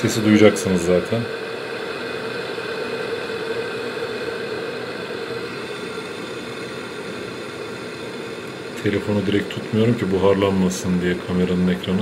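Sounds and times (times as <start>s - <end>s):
water boiling in electric kettle: 0.0s - 12.0s.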